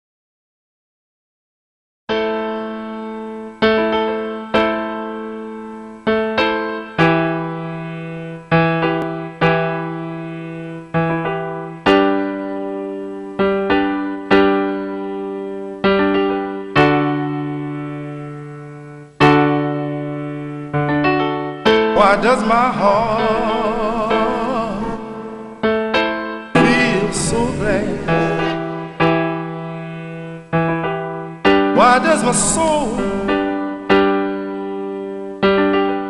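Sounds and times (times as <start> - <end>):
slow piano chords: 2.1 - 36.0.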